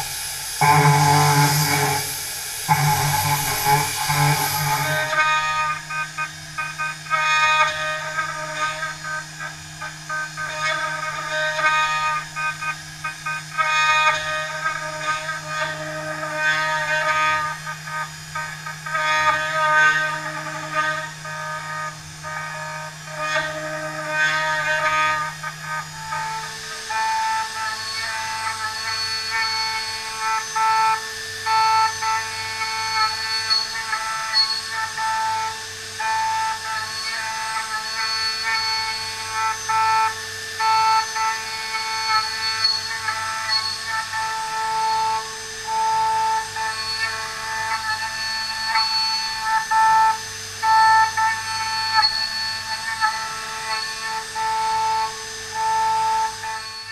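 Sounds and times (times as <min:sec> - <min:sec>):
milling machine whining: 0:00.0 - 0:56.9.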